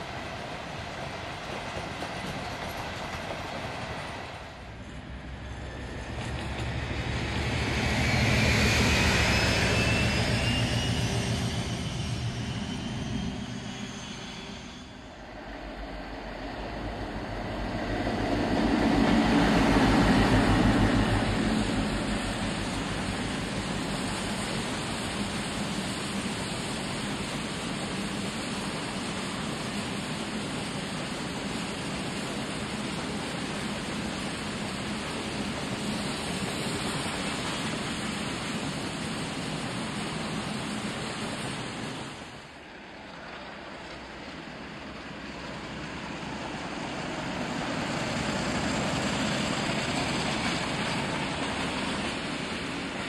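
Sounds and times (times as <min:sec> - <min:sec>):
diesel locomotive approaching: 0:00.0 - 0:53.0
freight train wheels rumbling: 0:00.0 - 0:53.0.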